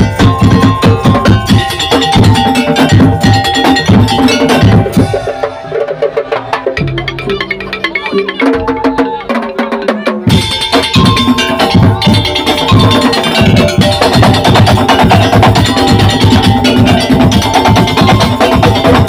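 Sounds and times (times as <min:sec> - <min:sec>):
dense drum and percussion rhythm: 0:00.0 - 0:19.0
held melodic notes: 0:00.0 - 0:19.0.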